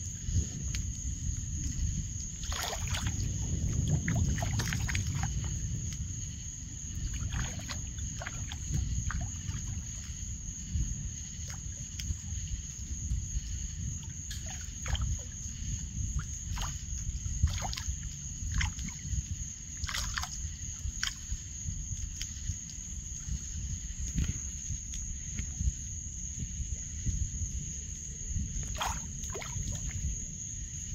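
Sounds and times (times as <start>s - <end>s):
water splashes and drips: 0.0s - 27.1s, 28.3s - 30.4s
high-pitched insect trill: 0.0s - 30.9s
low rumble: 0.0s - 30.9s.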